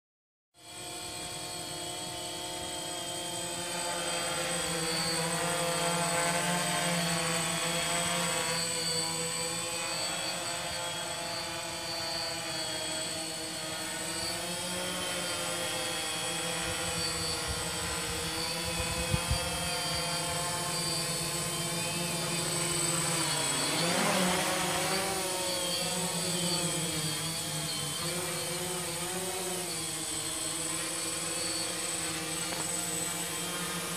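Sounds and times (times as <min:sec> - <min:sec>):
drone rotors buzzing: 0:00.6 - 0:33.9.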